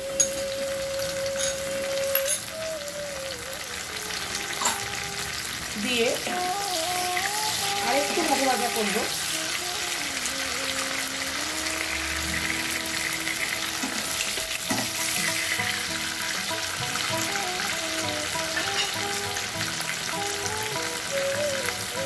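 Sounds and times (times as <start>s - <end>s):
soft background music: 0.0s - 22.0s
vegetables sizzling in hot oil: 0.0s - 22.0s.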